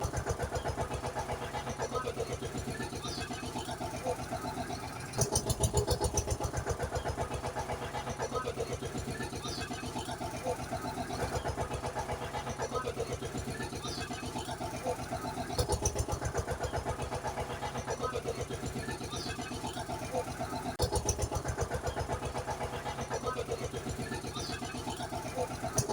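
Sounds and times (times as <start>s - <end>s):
small vehicle engine puttering: 0.0s - 25.9s.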